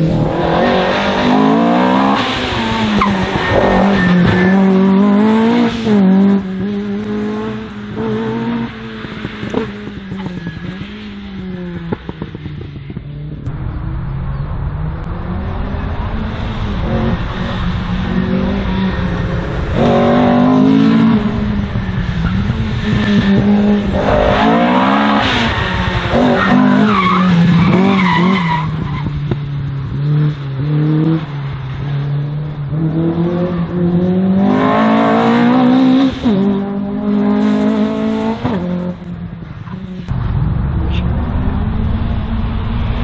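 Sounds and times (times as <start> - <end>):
race car engine revving: 0.0 - 43.0.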